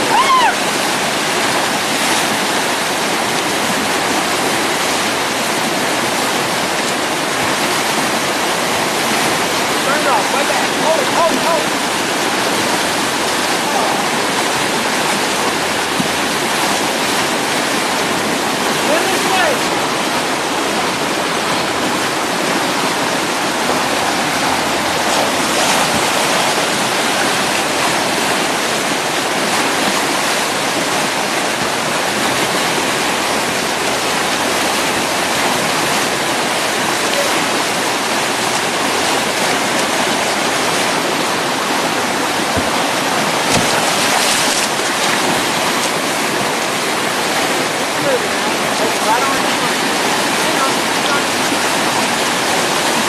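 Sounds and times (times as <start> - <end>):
whitewater rapids roaring: 0.0 - 53.0.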